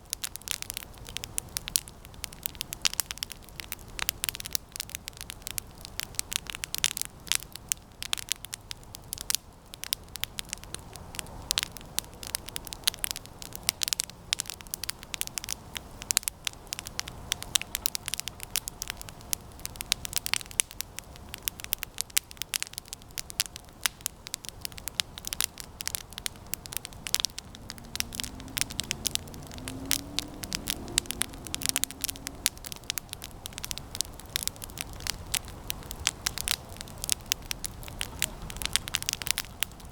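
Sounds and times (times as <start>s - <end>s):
campfire crackling and popping: 0.0s - 39.9s
low rush of burning: 0.0s - 39.9s.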